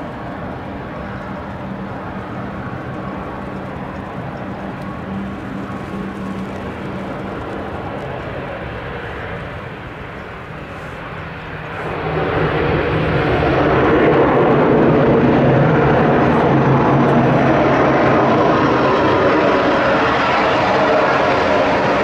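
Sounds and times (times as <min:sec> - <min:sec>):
low propeller hum: 0:00.0 - 0:22.0
turboprop engines drone: 0:00.0 - 0:22.0.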